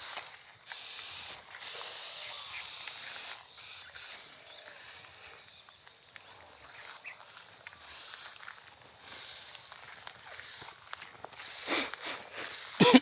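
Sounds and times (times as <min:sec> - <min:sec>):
insects buzzing and chirping: 0:00.0 - 0:13.0
rice plants rustling: 0:00.0 - 0:13.0.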